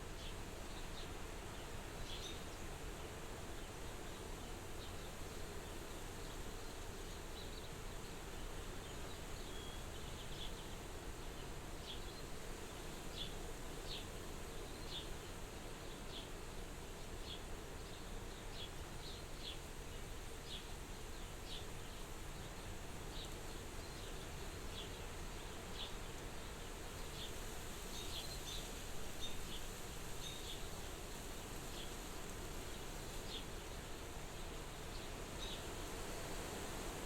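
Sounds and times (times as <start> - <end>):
wind at a window: 0.0 - 37.0.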